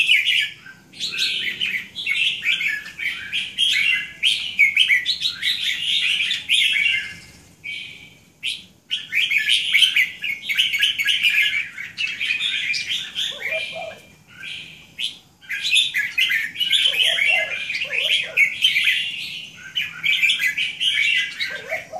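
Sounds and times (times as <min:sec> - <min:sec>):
birds singing chirpy phrases: 0:00.0 - 0:21.9
short low bird calls: 0:00.0 - 0:21.9.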